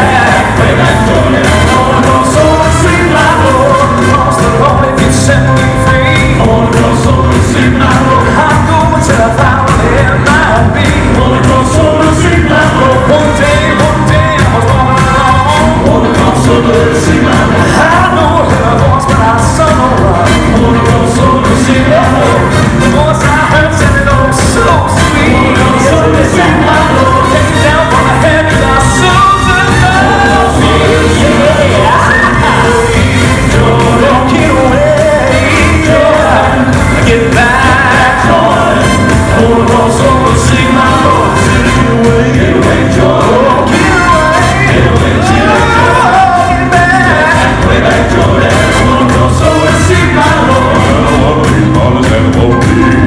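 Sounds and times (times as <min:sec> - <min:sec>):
backing band playing: 0:00.0 - 0:53.0
male vocal quartet singing: 0:00.0 - 0:53.0
piano accompaniment: 0:00.0 - 0:53.0.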